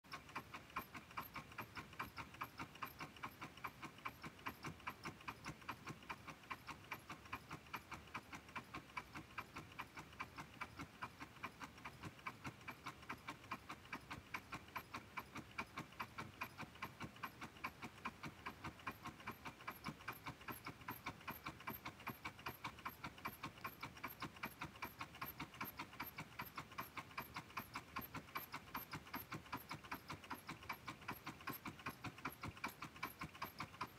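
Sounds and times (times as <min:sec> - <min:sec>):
stirling engine clicking: 0:00.1 - 0:33.9.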